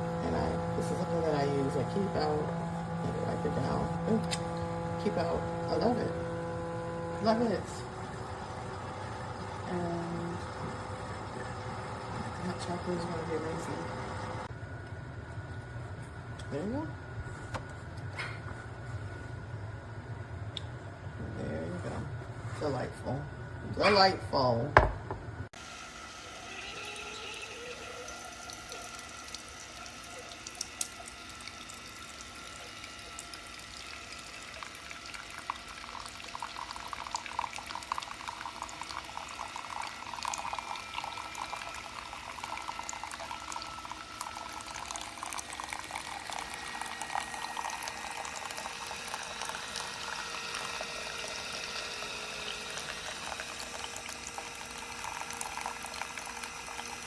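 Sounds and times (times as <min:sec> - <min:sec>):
coffee trickling and gurgling into cup: 0:00.0 - 0:14.5, 0:25.6 - 0:57.0.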